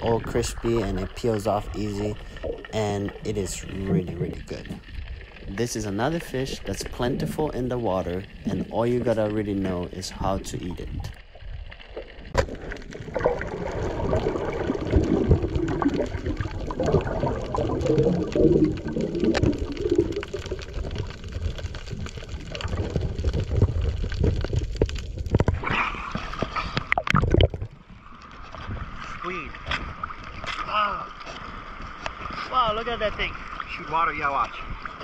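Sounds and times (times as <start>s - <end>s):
underwater rushing and gurgling: 0.0s - 35.0s
water splashing: 0.0s - 35.0s.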